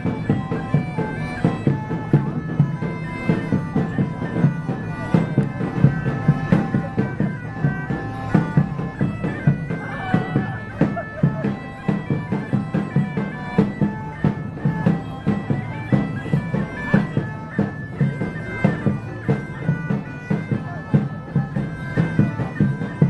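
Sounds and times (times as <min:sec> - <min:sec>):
bagpipes playing: 0:00.0 - 0:23.0
steady drum beat: 0:00.0 - 0:23.0.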